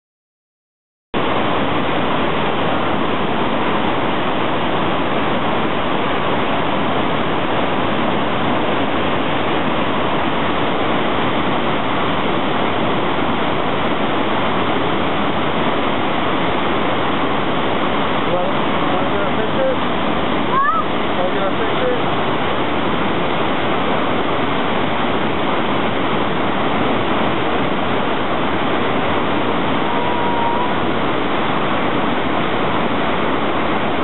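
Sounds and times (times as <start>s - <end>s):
roar of falling water: 1.2s - 34.0s.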